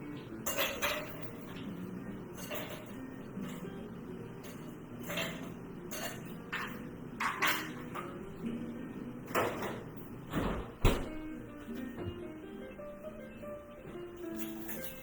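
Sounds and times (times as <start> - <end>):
faint guitar music: 0.0 - 15.0.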